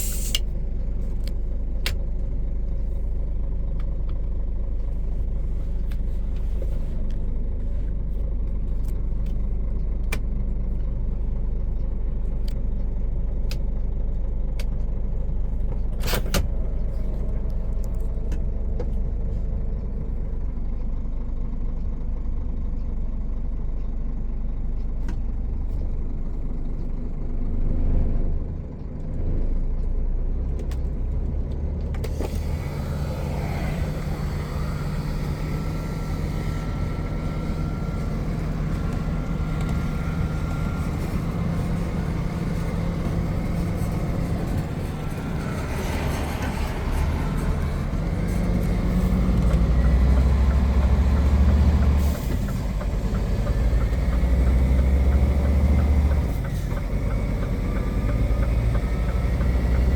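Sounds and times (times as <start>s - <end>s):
road rumble: 0.0s - 59.9s
truck diesel engine: 0.0s - 59.9s.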